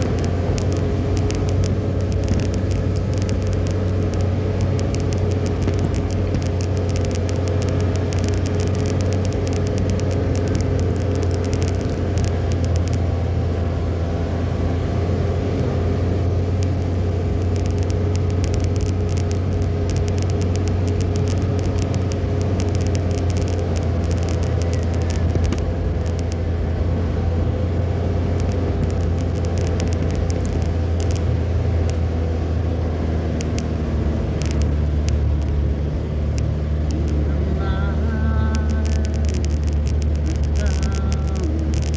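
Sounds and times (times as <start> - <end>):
car engine and tyre rumble: 0.0 - 41.9
rain ticking on vehicle: 0.0 - 41.9.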